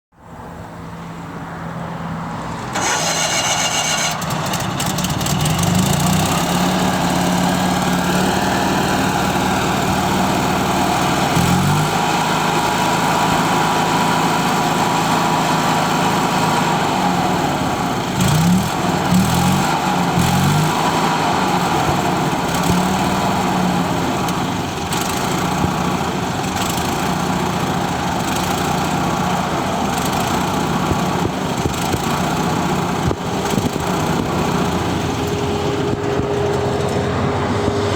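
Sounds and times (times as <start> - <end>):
tractor engine running: 2.4 - 37.9
starter motor whine: 2.7 - 37.9.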